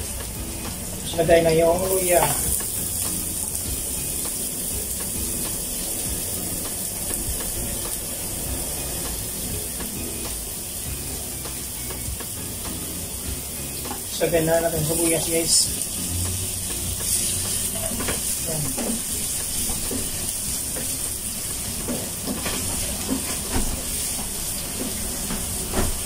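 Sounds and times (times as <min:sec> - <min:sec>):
garlic sizzling in hot oil: 0:00.0 - 0:26.0.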